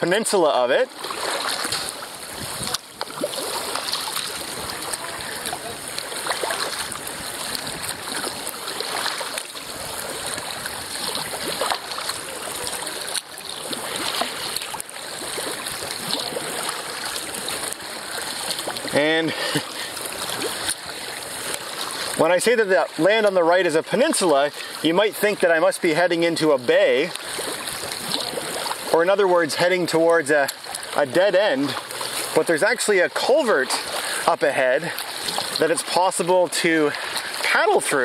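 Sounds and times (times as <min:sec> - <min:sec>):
paddle strokes in water: 0:00.0 - 0:38.0
water rushing along kayak hull: 0:00.0 - 0:38.0.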